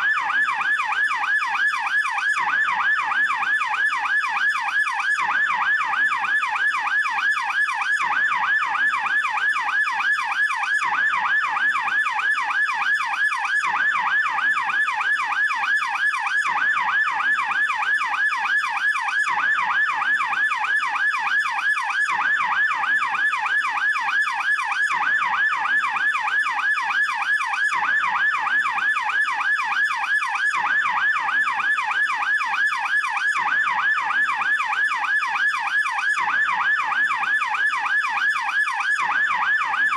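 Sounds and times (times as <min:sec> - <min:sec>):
police yelp siren: 0:00.0 - 0:39.9.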